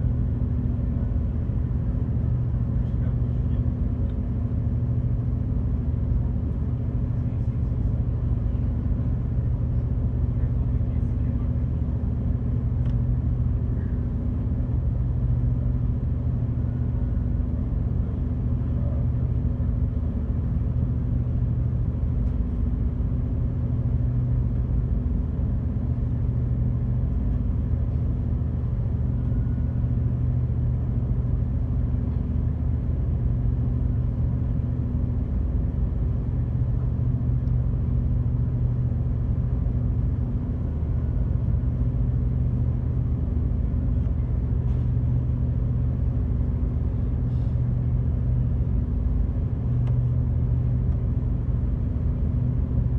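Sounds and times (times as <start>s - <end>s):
ferry engines humming: 0.0s - 52.9s.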